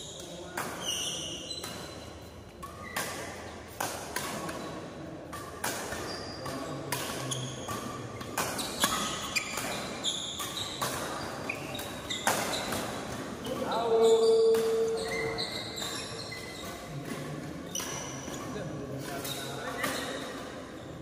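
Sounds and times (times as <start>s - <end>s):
shoes squeaking on court: 0.0s - 3.5s, 5.4s - 21.0s
racket hitting shuttlecock: 0.2s - 20.6s.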